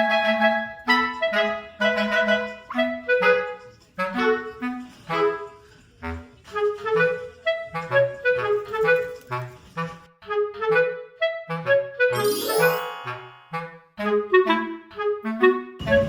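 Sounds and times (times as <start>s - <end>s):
bouncy woodwind tune: 0.0s - 5.4s, 6.1s - 16.0s.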